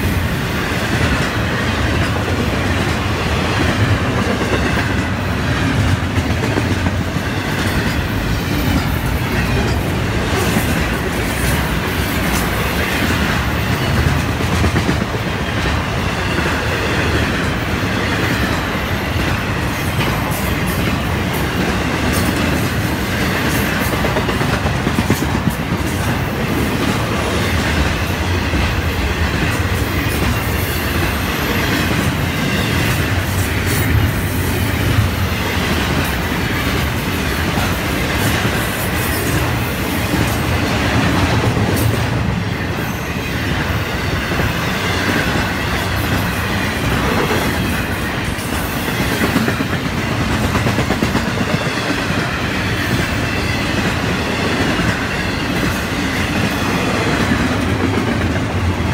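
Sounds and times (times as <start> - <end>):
freight train wheels rumbling: 0.0 - 58.9
wheels clickety-clack: 0.6 - 58.9.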